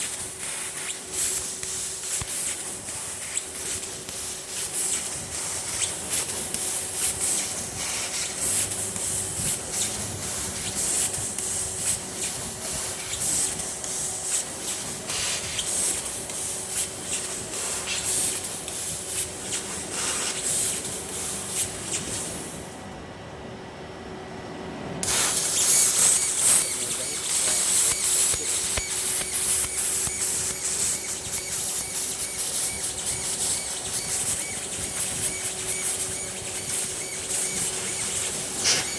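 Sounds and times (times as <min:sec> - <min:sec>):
cutting machine hiss with crackling: 0:00.0 - 0:22.9, 0:25.0 - 0:38.9.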